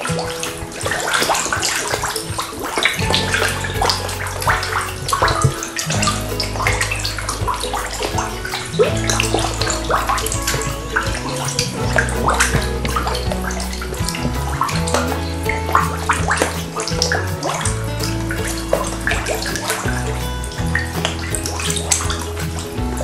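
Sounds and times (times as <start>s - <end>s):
background music with low notes: 0.0s - 23.0s
fish splashing in water: 0.0s - 23.0s.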